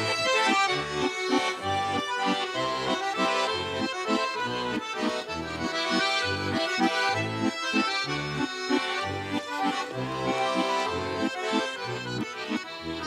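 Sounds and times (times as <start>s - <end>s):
button accordion folk melody: 0.0s - 13.0s.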